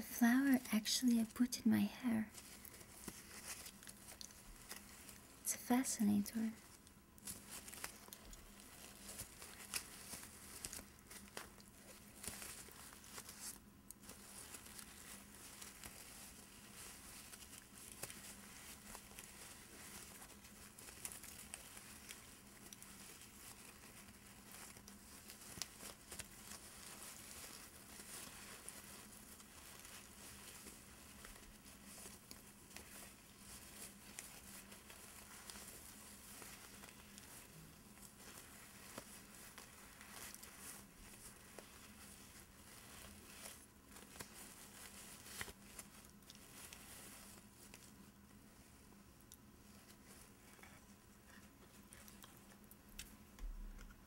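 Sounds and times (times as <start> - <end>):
fingers crinkling flower petals: 0.0 - 54.0.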